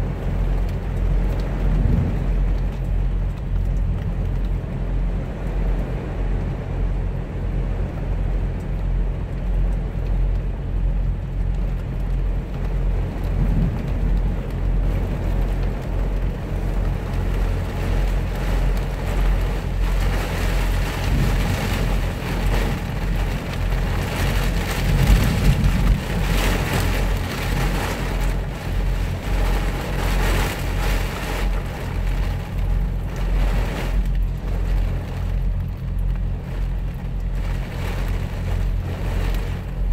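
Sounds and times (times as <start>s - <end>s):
rain on truck cab: 0.0s - 39.9s
thunder rumble: 0.1s - 6.4s, 12.3s - 39.9s.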